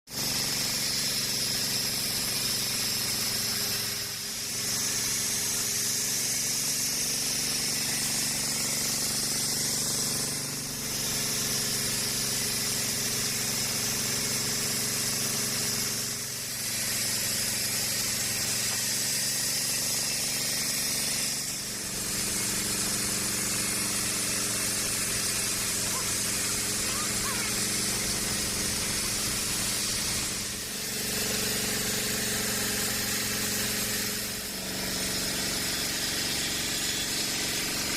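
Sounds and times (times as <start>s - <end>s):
saw cutting through log: 0.1s - 37.9s
sawmill machine hum: 0.1s - 37.9s.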